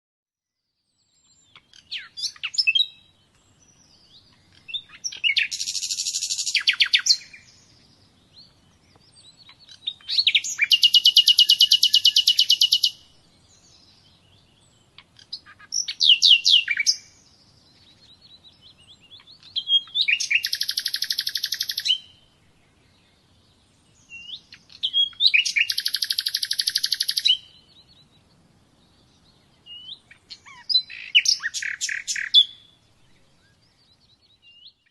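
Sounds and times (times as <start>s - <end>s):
songbird singing with trills: 0.7s - 34.9s.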